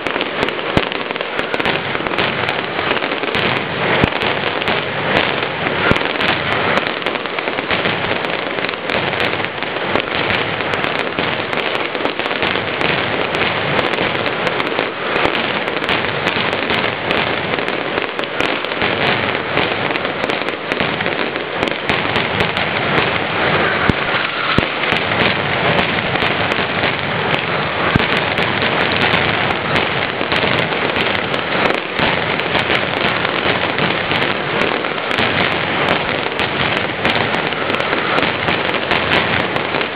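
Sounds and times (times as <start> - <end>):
firecrackers rattling: 0.0 - 39.9.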